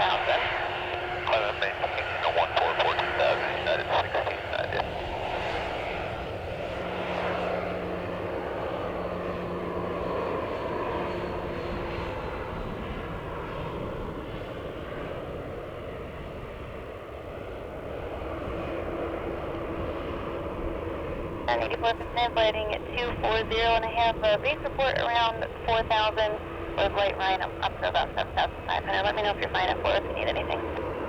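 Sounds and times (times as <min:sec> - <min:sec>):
airliner engines running: 0:00.0 - 0:31.0.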